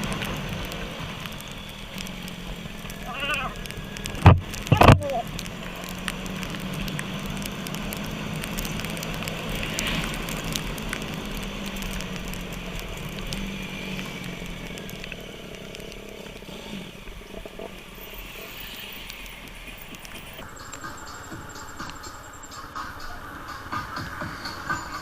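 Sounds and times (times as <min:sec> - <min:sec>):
motorcycle engine humming: 0:00.0 - 0:25.0
scattered crackles: 0:00.0 - 0:25.0
wind or rain noise: 0:00.0 - 0:25.0.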